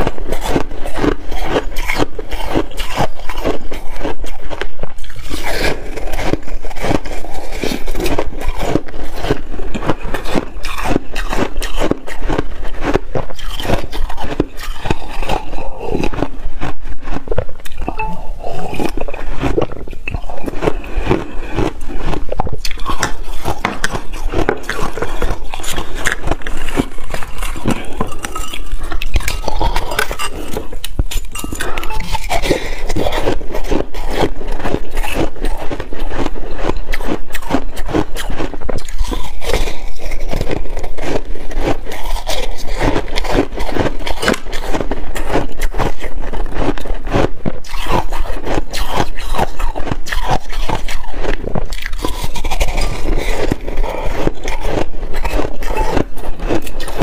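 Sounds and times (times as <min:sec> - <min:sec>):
spoon crunching shaved ice: 0:00.0 - 0:57.0.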